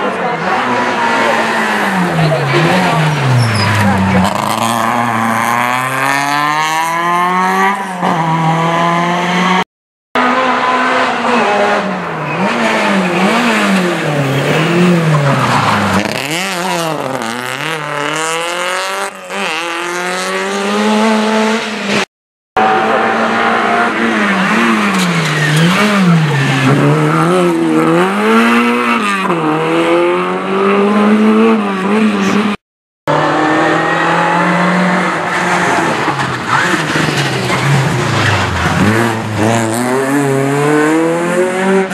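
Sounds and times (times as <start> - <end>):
rally car engines revving: 0.0 - 9.6, 10.2 - 41.9.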